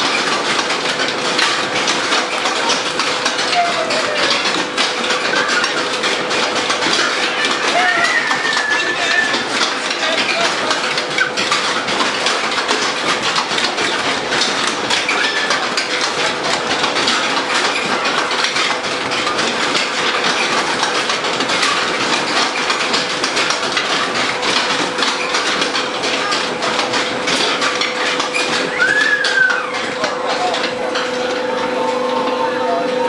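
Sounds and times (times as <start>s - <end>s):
constant hum: 0.0s - 33.0s
ride machinery rattling: 0.0s - 33.0s.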